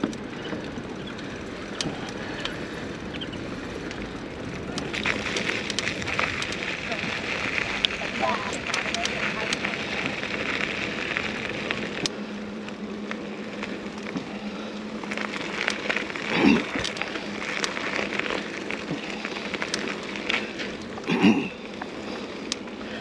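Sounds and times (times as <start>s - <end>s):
bike clicks and rattles: 0.0s - 23.0s
bike tyres crackling on dirt: 0.0s - 23.0s.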